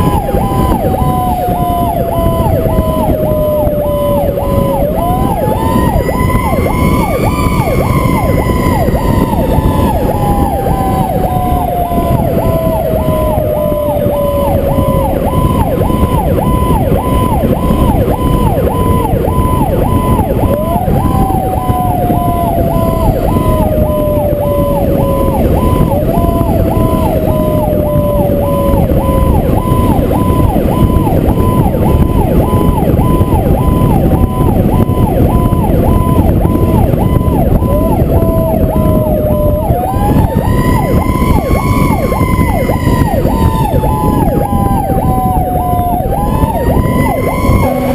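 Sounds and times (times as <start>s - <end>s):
engine and road noise: 0.0s - 47.9s
fast up-and-down siren: 0.0s - 47.9s
lower rising and falling siren: 0.0s - 47.9s.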